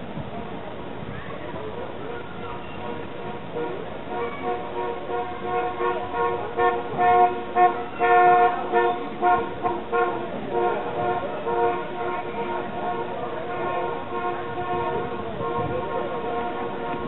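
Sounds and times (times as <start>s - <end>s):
faint street noise: 0.0s - 17.0s
horn-like notes in a tune: 2.8s - 17.0s.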